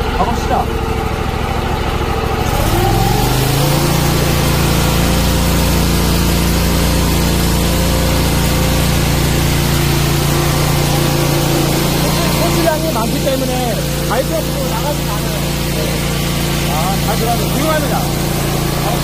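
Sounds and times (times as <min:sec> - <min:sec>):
engine revving and running: 0:00.0 - 0:19.0
high-pressure water jet hiss: 0:02.4 - 0:19.0.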